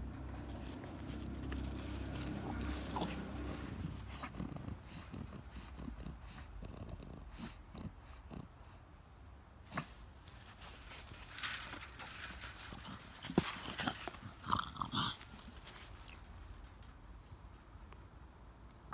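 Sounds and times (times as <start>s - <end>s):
dog sniffing and snuffling: 0.4s - 8.9s, 9.6s - 16.6s.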